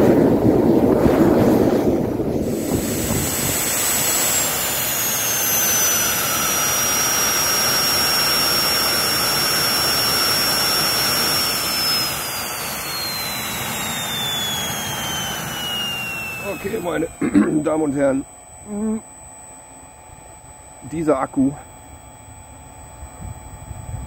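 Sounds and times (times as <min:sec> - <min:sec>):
jet engine rush and whine: 0:00.0 - 0:24.0.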